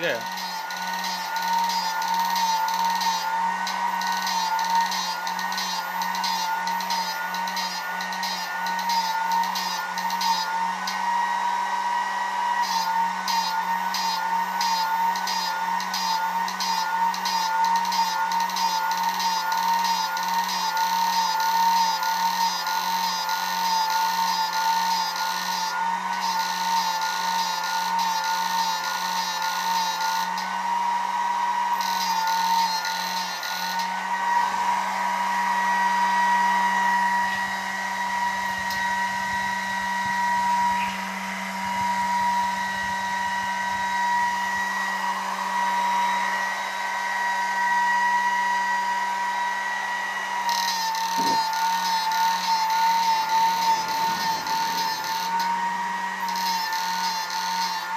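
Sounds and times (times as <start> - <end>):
cooling fan rushing: 0.0 - 57.9
high electrical whine: 0.0 - 57.9.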